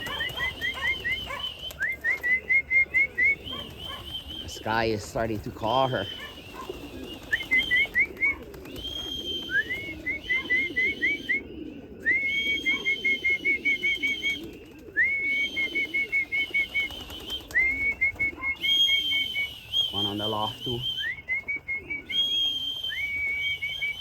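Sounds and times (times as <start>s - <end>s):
person whistling pigeon call: 0.0s - 24.0s
pigeons cooing softly: 0.0s - 24.0s.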